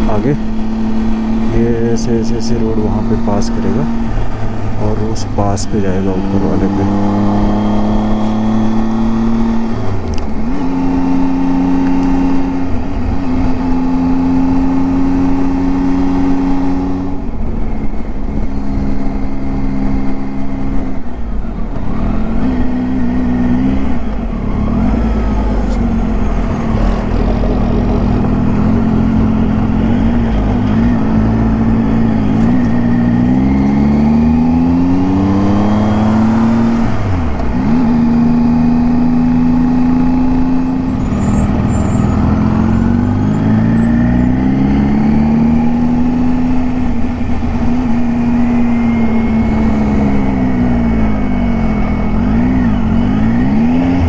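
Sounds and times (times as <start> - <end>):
rush of riding noise: 0.0 - 54.0.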